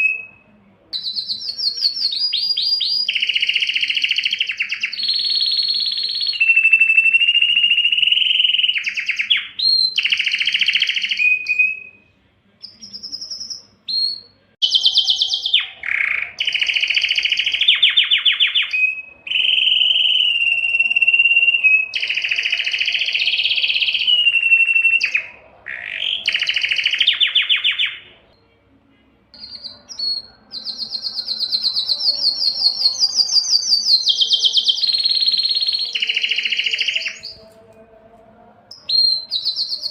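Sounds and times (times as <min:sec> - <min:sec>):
canary singing trills: 0:00.0 - 0:28.6, 0:29.3 - 0:37.9, 0:38.7 - 0:39.9.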